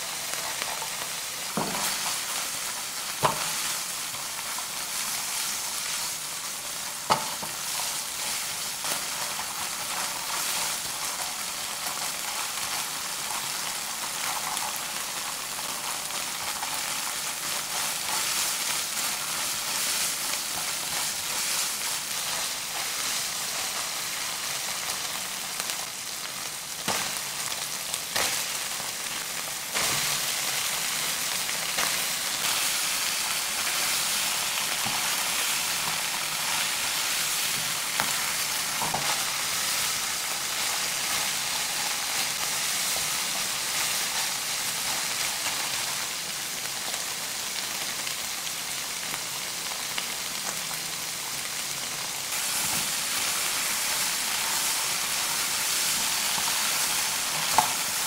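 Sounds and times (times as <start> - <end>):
meat sizzling in frying pan: 0.0 - 58.0.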